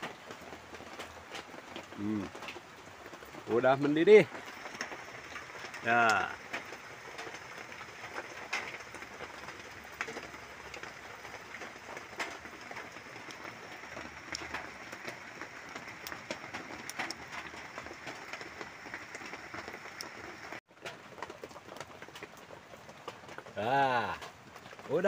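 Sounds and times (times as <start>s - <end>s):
light rain pattering: 0.0s - 25.0s
water boiling in a can: 0.0s - 25.0s
wood fire crackling: 0.0s - 25.0s.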